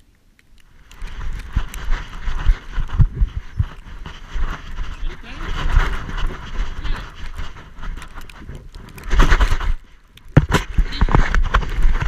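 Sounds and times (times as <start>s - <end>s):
steps and rustling in snow: 0.7s - 12.0s.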